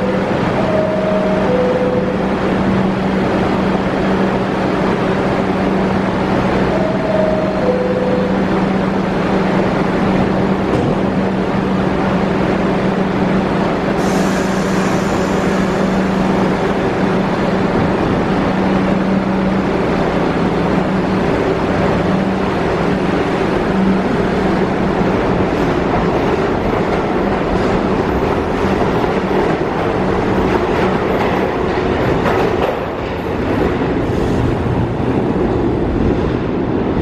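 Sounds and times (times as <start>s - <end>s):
subway train hum: 0.0s - 37.0s.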